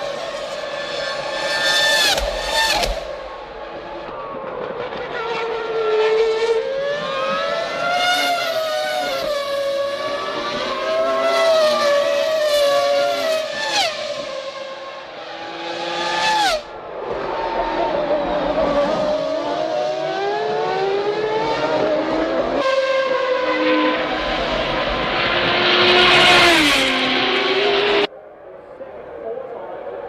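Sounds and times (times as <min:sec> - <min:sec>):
racing car engines at high revs: 0:00.0 - 0:28.1.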